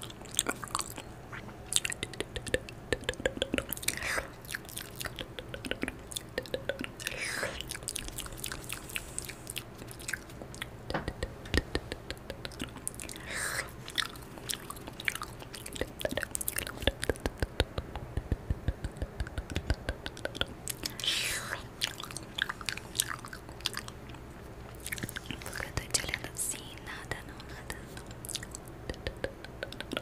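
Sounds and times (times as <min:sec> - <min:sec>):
wet mouth clicks and lip smacks: 0:01.7 - 0:13.2, 0:13.9 - 0:24.2, 0:27.5 - 0:30.0.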